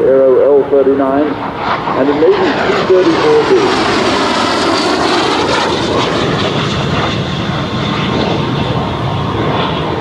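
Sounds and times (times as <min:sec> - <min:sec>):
jet engine rushing: 0:00.0 - 0:10.0.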